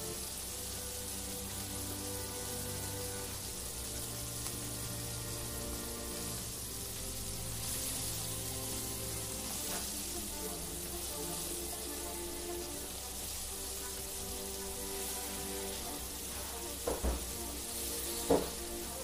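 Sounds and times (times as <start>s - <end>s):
background music with held notes: 0.0s - 19.0s
food frying sizzle: 0.0s - 19.0s.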